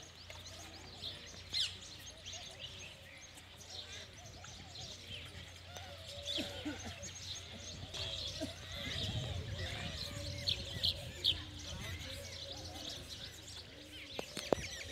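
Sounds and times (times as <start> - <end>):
faint voices: 0.0 - 14.9
small birds chirping: 0.0 - 14.9.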